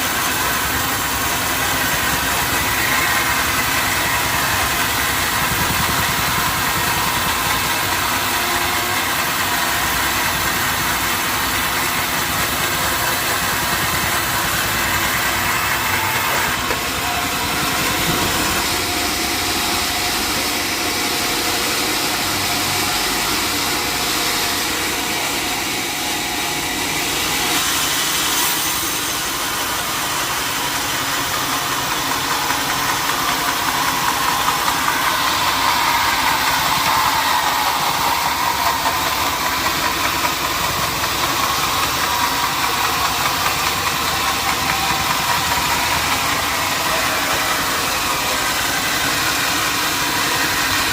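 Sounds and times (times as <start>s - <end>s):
sawmill machinery drone: 0.0s - 50.9s.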